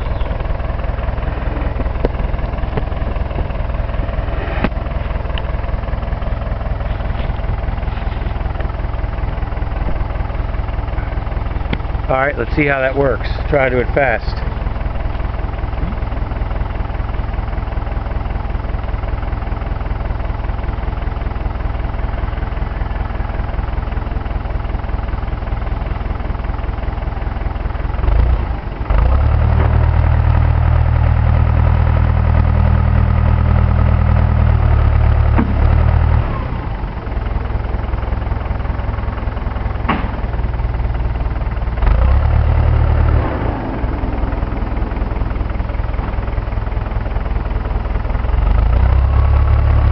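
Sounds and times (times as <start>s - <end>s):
backhoe diesel engine running: 0.0s - 49.9s.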